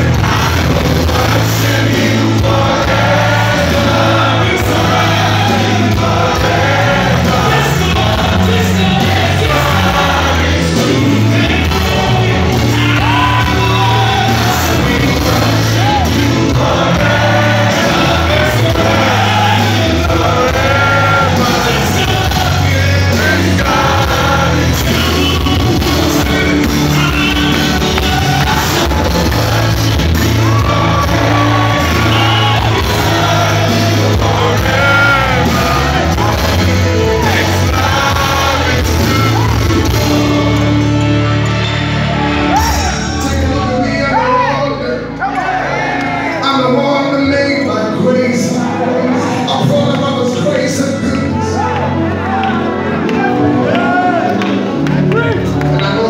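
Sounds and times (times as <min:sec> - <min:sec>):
man singing: 0:00.0 - 0:41.1, 0:42.5 - 0:45.3, 0:46.4 - 0:52.0
band playing gospel music: 0:00.0 - 0:56.0.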